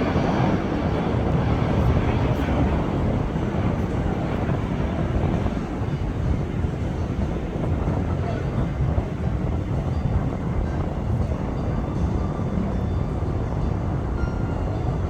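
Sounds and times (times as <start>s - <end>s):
airplane engines rumbling: 0.0s - 15.0s
wind buffeting microphone: 0.0s - 15.0s.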